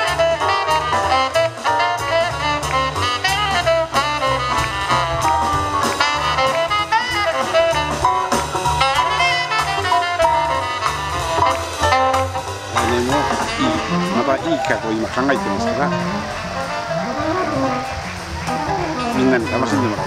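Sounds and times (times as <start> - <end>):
live jazz band playing: 0.0 - 20.0
saxophone melody: 0.0 - 20.0.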